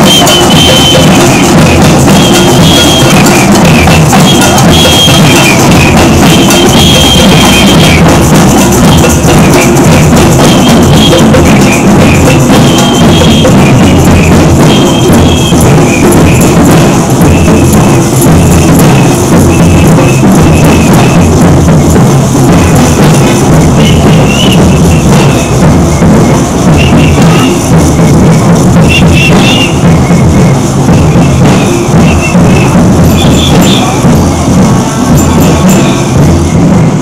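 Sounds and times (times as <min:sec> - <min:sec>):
drumming and percussion music: 0:00.0 - 0:37.0.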